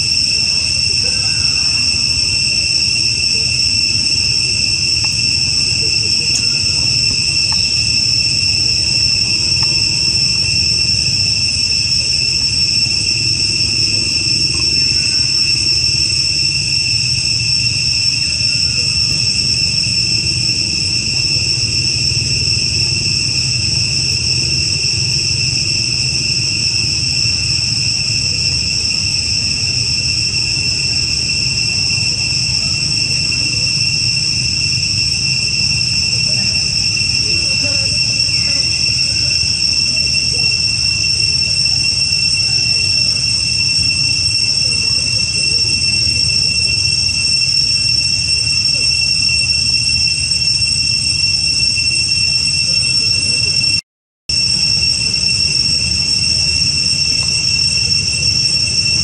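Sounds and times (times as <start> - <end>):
insects buzzing: 0.0 - 49.7.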